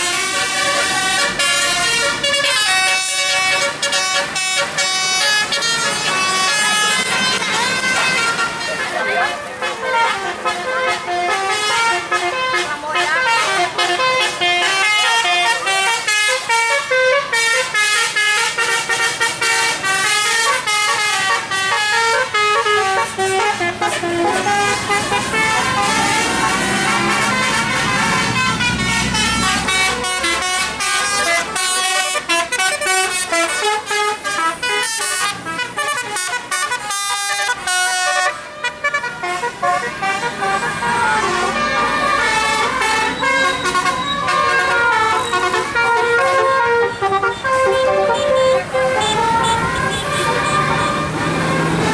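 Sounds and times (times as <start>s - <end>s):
multi-tone bus horns playing melody: 0.0s - 51.9s.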